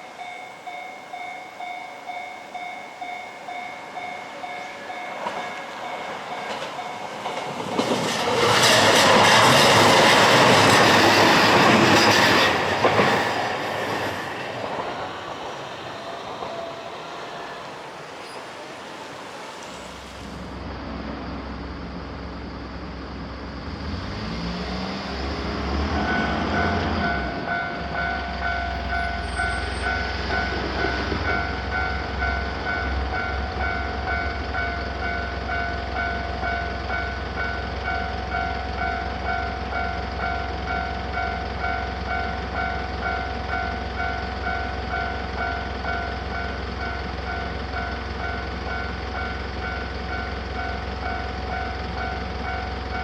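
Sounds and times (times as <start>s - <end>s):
railroad crossing bell dinging: 0.0s - 20.4s, 25.9s - 53.0s
railroad crossing bell ringing: 0.0s - 20.5s, 25.9s - 53.0s
train passing: 0.0s - 53.0s.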